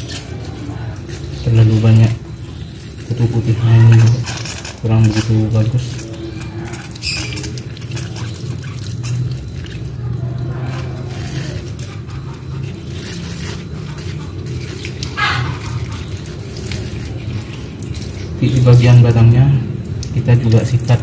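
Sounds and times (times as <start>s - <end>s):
hose water spattering on leaves: 0.0s - 21.0s
splash or rustle: 0.0s - 21.0s.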